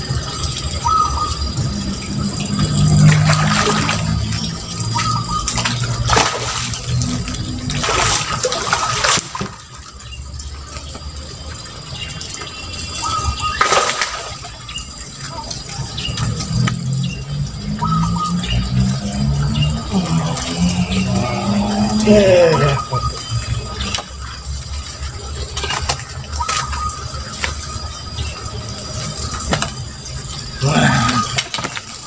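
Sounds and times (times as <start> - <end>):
fish splashing at water surface: 0.0 - 32.0.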